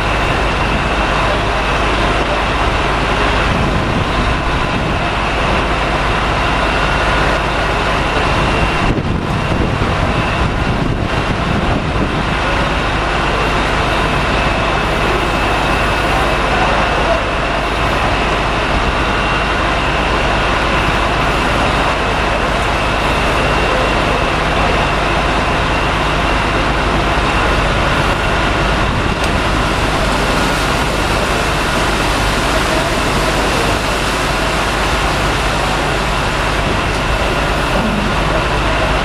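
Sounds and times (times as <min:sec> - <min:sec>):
faint steady whine: 0:00.0 - 0:39.0
ferry engines rumbling: 0:00.0 - 0:39.0
propeller wash churning water: 0:00.0 - 0:39.0.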